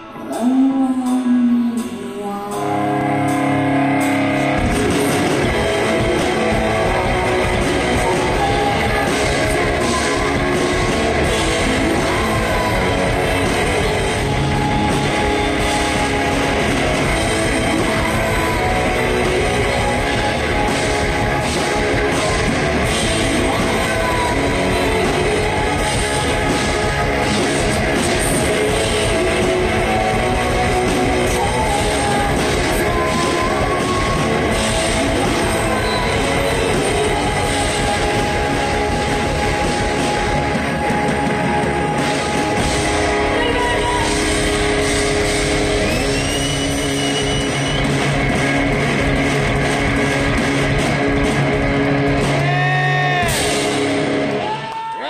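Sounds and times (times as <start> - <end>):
live heavy rock band: 0.0 - 55.0.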